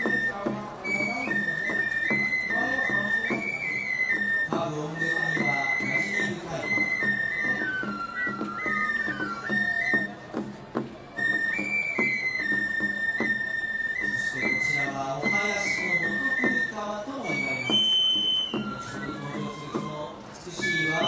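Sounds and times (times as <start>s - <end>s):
high flute long notes: 0.0s - 10.3s, 11.1s - 21.0s.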